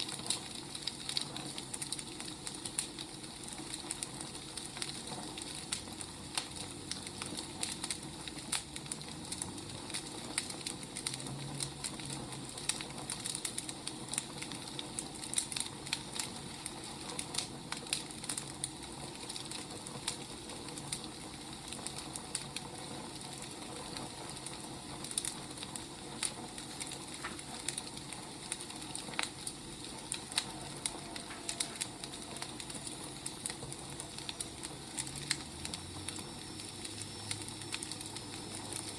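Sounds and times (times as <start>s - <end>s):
fire hiss: 0.0s - 38.9s
firewood crackling: 0.0s - 38.9s.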